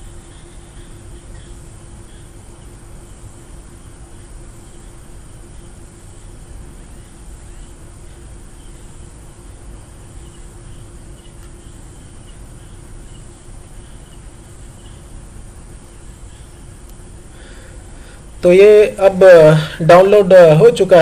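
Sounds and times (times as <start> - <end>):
constant low hum: 0.0 - 21.0
microphone hiss: 0.0 - 21.0.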